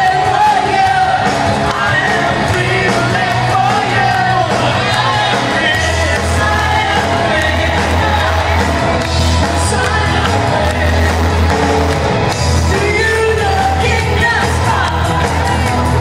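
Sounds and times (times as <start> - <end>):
deep bass line: 0.0 - 16.0
live worship music with singing: 0.0 - 16.0.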